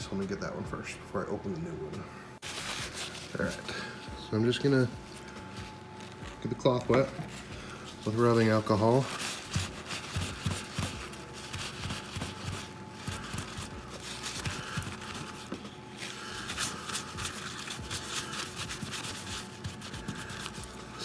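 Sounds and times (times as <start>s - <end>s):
paper towel rubbing leatherette: 2.4s - 21.0s.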